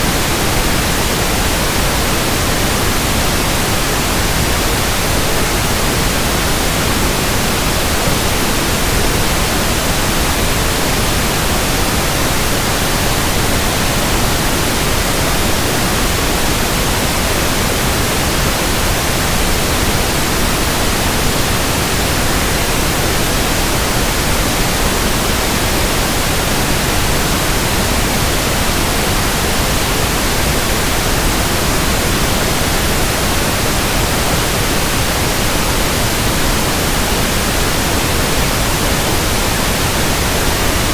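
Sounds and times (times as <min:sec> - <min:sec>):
pink noise hiss: 0:00.0 - 0:40.9.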